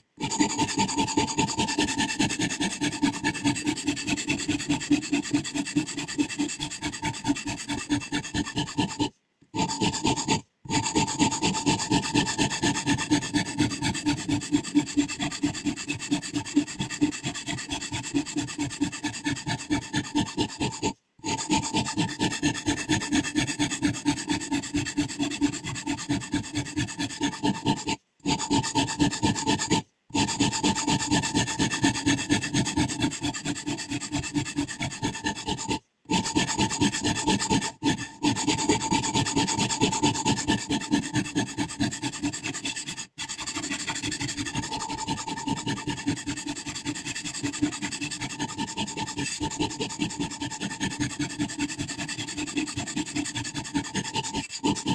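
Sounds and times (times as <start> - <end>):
sharpening stone rasping on blade: 0.2 - 54.9.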